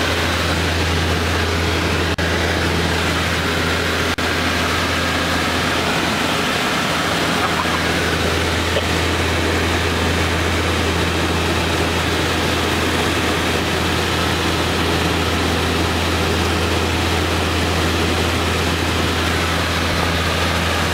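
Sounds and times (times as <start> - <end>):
aircraft engines droning: 0.0 - 20.9.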